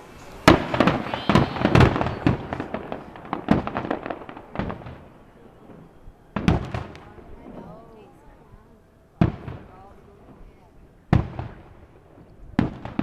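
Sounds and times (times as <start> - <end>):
fireworks bangs and cracks: 0.0 - 8.2, 9.2 - 13.0.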